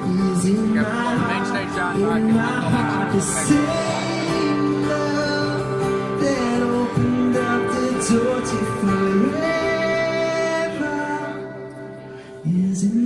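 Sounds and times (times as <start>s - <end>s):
worship song with guitar: 0.0s - 13.0s.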